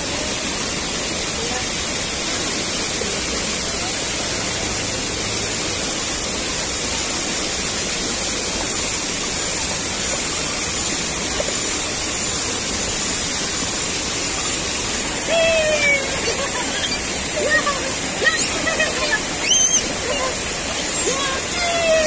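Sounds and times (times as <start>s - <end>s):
stream pouring over boulders: 0.0s - 22.0s
waterfall rushing: 0.0s - 22.0s.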